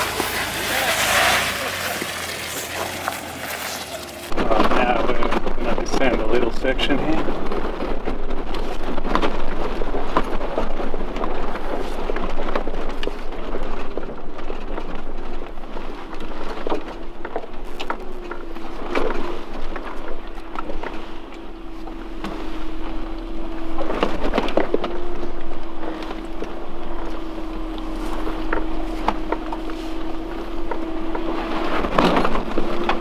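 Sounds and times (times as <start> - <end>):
engine hum: 0.0 - 33.0
tyres rumbling on dirt track: 0.0 - 33.0.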